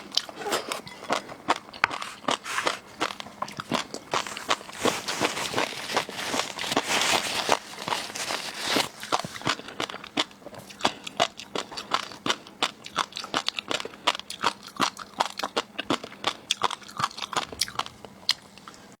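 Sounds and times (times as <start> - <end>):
chewing crunchy seafood: 0.0 - 19.0.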